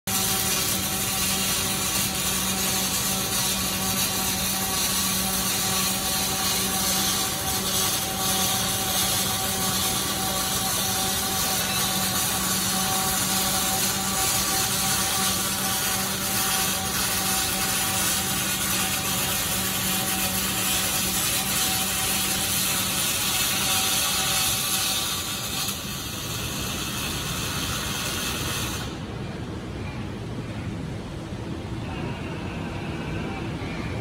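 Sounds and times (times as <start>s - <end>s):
welding arc hiss and crackle: 0.0s - 29.2s
machine hum: 0.1s - 34.0s.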